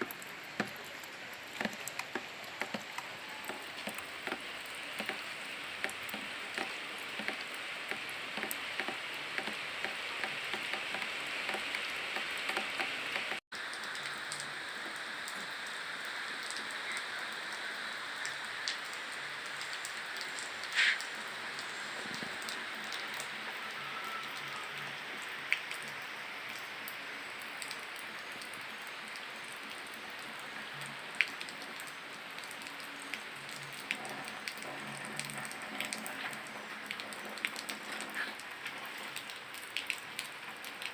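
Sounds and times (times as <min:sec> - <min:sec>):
steady rain on surfaces: 0:00.0 - 0:40.9.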